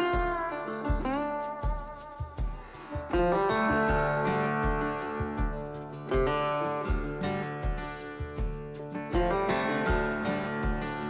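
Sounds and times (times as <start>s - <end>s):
steady low beat: 0.0s - 11.0s
strummed guitar: 0.0s - 11.0s.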